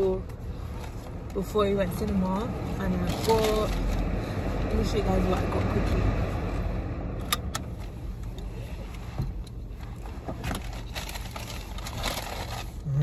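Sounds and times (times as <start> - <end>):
low cabin hum: 0.0 - 13.0.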